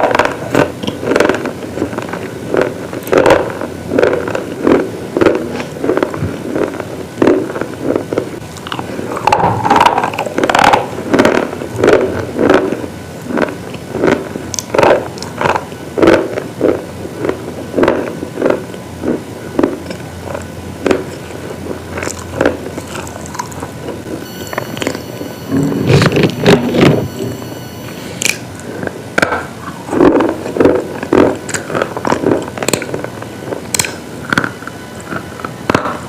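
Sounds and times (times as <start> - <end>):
slate crunching as chewed: 0.0 - 36.0.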